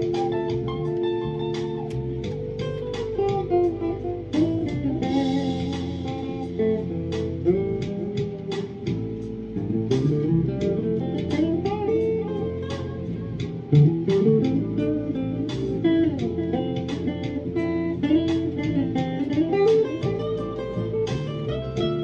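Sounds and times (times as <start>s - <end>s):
electric guitar lead notes: 0.0s - 22.0s.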